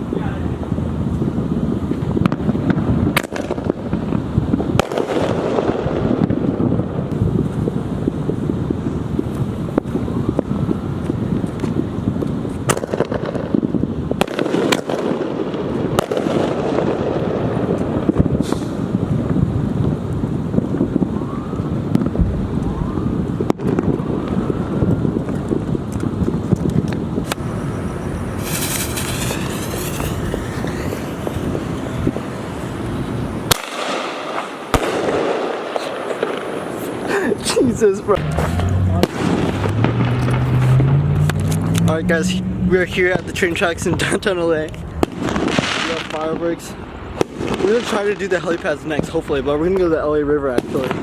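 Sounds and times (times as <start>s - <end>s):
fireworks bangs: 0.0s - 51.0s
wind noise on microphone: 0.0s - 51.0s.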